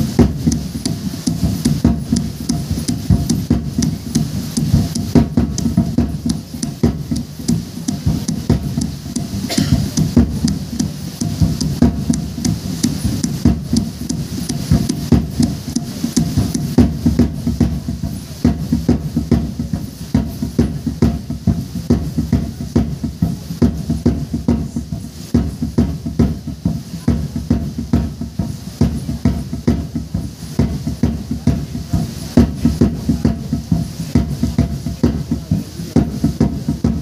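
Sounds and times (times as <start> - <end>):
drum beaten in dance rhythm: 0.0 - 37.0.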